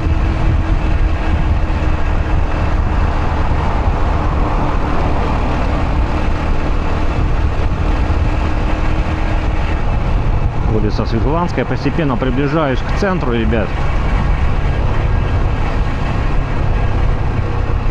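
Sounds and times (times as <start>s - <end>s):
motorcycle engine: 0.0s - 17.9s
road noise rush: 0.0s - 17.9s
wind rumble on microphone: 0.0s - 17.9s.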